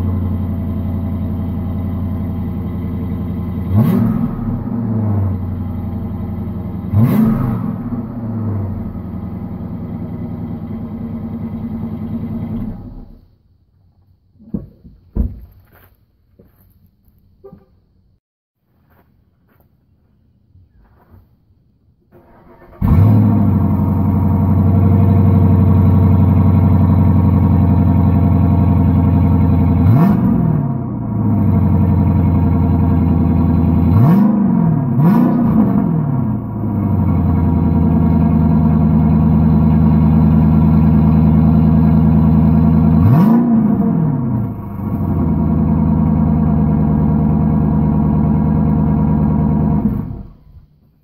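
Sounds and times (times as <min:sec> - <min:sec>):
vee eight engine idling and revving: 0:00.0 - 0:13.2, 0:22.3 - 0:50.7.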